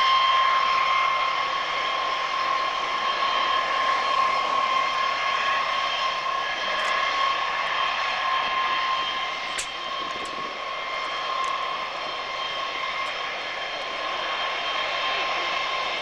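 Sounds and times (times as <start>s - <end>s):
jet engines taxiing: 0.0s - 16.0s.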